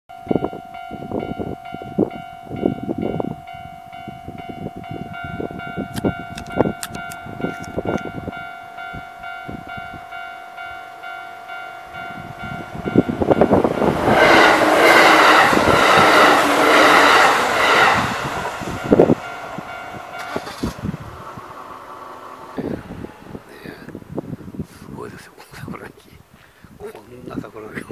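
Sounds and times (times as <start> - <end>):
level-crossing warning bell: 0.1 - 23.5
train passing: 0.1 - 24.7.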